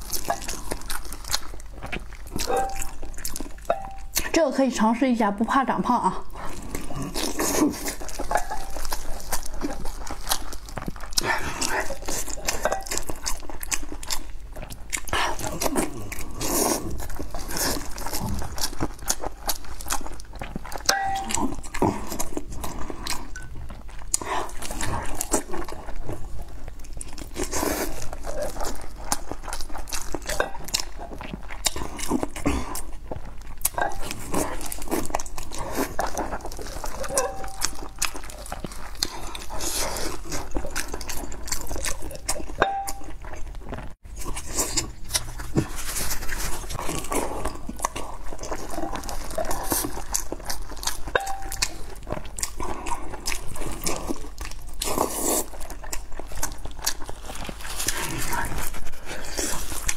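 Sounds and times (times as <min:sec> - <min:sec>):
person chewing: 0:00.0 - 0:04.4, 0:06.2 - 0:59.9.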